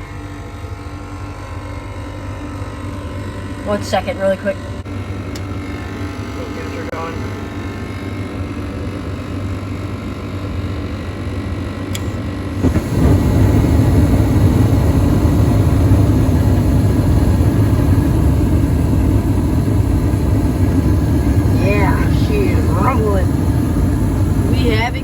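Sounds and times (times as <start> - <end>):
furnace motor humming: 2.5 - 25.0.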